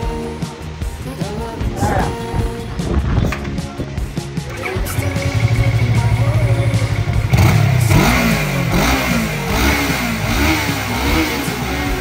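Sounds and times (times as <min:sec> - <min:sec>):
motorcycle engine revving: 0:00.8 - 0:12.0.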